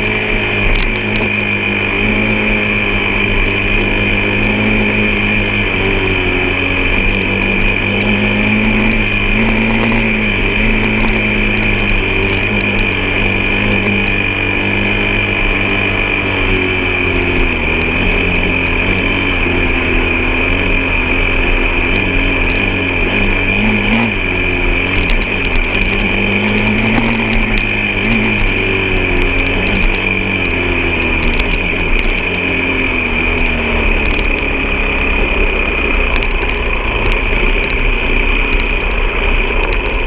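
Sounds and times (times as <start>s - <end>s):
high whine: 0.0s - 40.0s
vehicle engine running: 0.0s - 40.0s.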